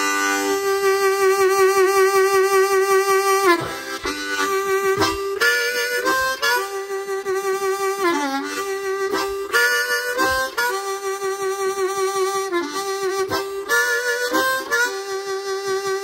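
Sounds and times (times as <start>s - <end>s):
blues harmonica: 0.0s - 16.0s.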